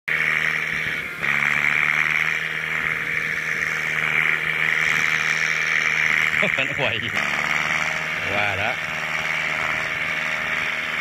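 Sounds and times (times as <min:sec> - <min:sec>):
farm machinery engines running: 0:00.1 - 0:11.0.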